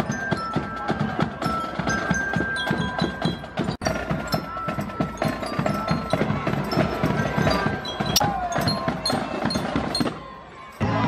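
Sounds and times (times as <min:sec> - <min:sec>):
glockenspiel notes: 0:00.0 - 0:10.9
marching band drums: 0:00.0 - 0:11.0.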